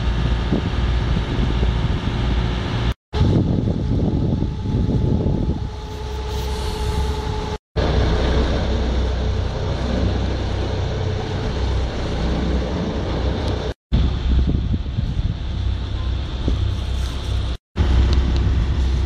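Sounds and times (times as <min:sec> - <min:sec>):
low steady rumble: 0:00.0 - 0:19.0
wind buffeting microphone: 0:00.0 - 0:19.0.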